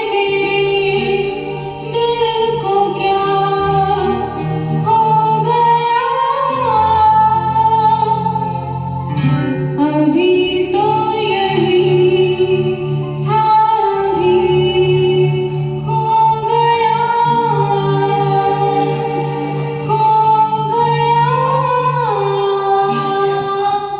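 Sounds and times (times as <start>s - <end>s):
low backing accompaniment: 0.0s - 23.9s
plucked guitar: 0.0s - 23.9s.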